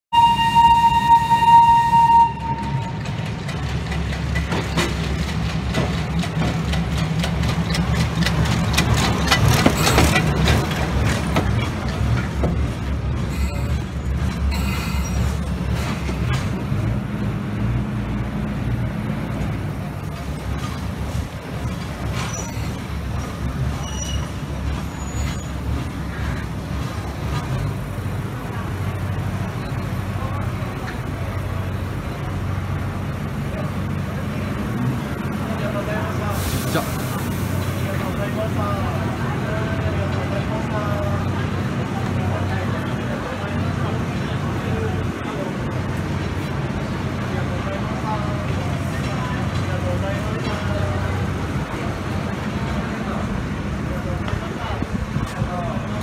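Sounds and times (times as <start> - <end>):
diesel engine rumbling: 0.1 - 56.0
wheels clattering on rails: 2.4 - 56.0.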